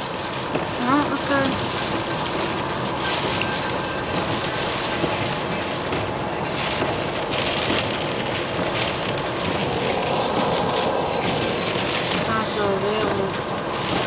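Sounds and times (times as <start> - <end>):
rain and wind heard inside car: 0.0 - 14.0.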